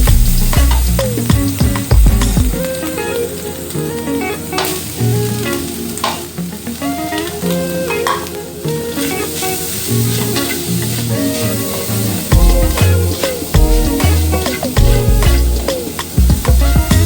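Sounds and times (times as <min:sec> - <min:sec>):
food sizzling in a pan: 0:00.0 - 0:17.0
plucked guitar music: 0:00.0 - 0:17.0.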